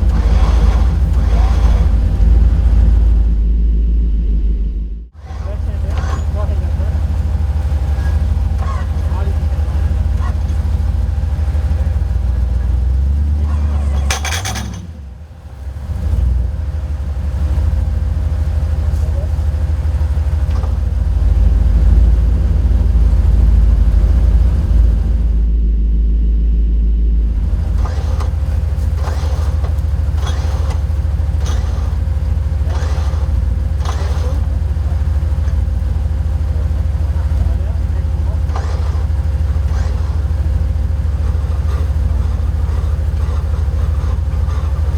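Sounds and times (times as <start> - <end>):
truck engine rumbling: 0.0 - 44.9.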